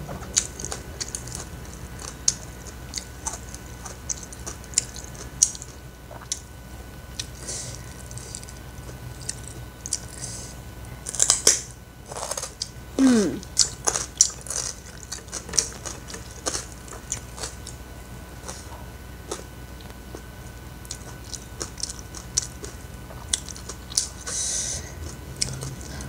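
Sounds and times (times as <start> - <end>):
chewing and lip-smacking: 0.1 - 6.5, 7.1 - 10.4, 13.4 - 17.8, 18.4 - 26.0.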